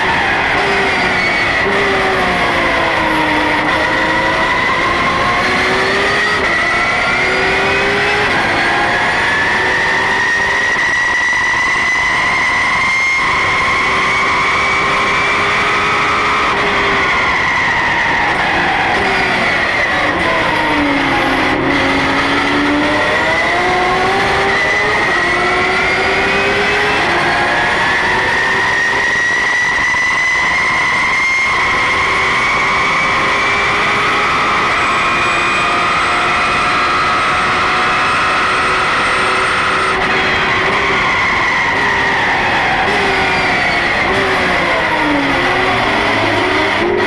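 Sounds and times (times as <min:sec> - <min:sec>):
race car engine at high revs: 0:00.0 - 0:47.0.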